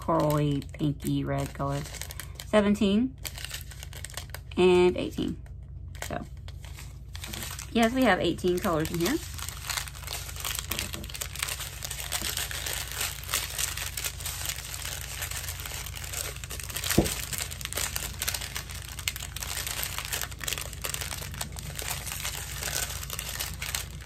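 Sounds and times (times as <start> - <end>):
plastic bags crinkling: 0.0 - 2.6, 3.2 - 4.5, 5.2 - 24.0.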